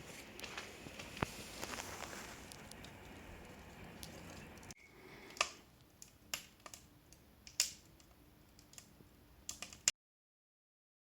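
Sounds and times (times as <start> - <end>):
wood fire crackling pops: 0.0 - 9.9.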